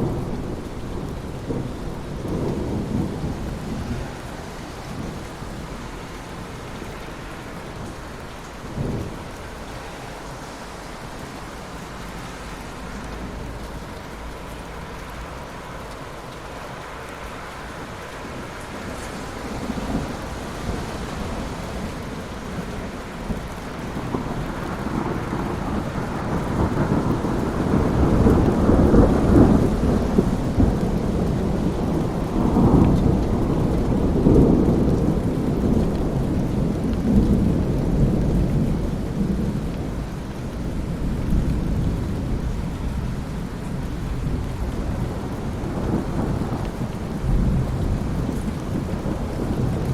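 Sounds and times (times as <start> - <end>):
rolling thunder: 0.0 - 16.3, 17.7 - 49.9
steady rain: 0.0 - 49.9.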